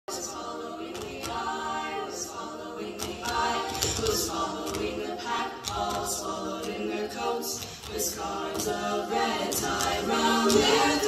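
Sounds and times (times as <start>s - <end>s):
choir singing in harmony: 0.1s - 11.0s.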